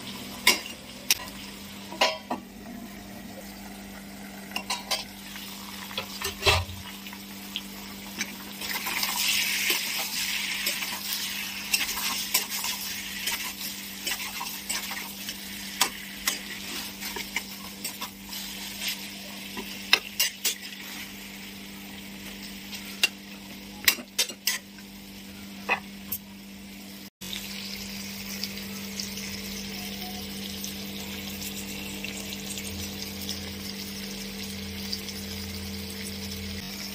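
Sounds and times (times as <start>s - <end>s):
chicken sizzling in pan: 0.0s - 36.9s.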